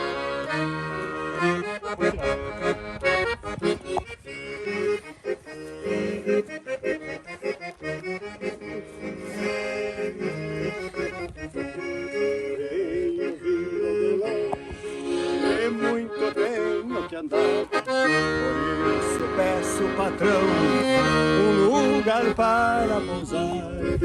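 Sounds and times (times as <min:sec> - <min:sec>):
accordion playing: 0:00.0 - 0:24.0
rhythmic accompaniment: 0:00.0 - 0:24.0.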